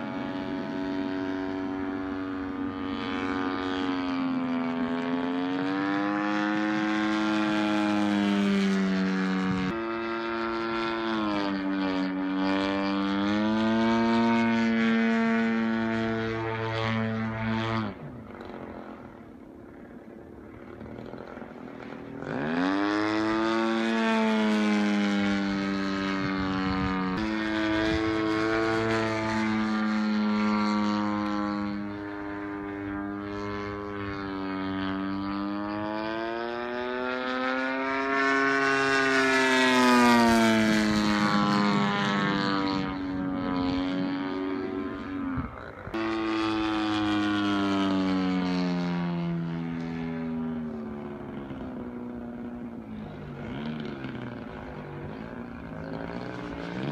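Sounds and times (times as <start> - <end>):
model plane engine flying overhead: 0.0 - 56.9.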